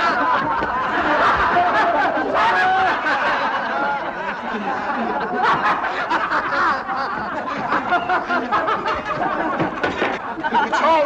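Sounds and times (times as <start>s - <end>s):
men laughing: 0.0s - 11.0s.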